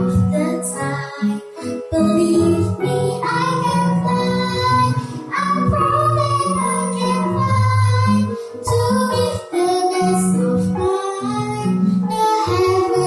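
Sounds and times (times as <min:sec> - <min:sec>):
child singing: 0:00.0 - 0:13.0
musical backing: 0:00.0 - 0:13.0.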